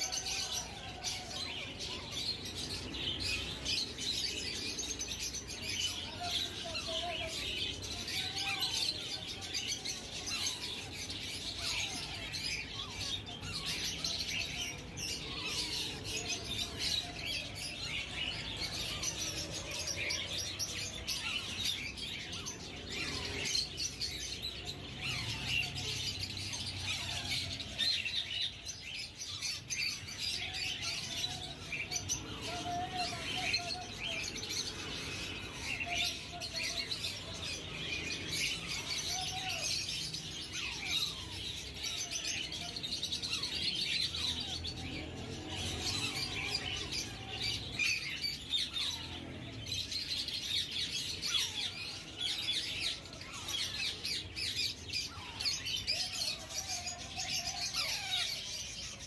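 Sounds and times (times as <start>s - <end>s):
parakeet chicks chirping: 0.0s - 59.0s.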